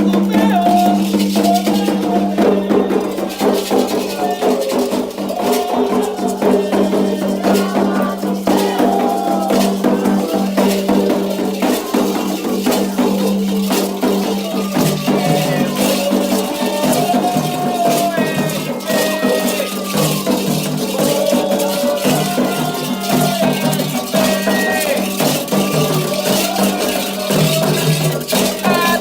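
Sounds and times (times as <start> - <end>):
rattle shaken rhythmically: 0.0 - 29.0.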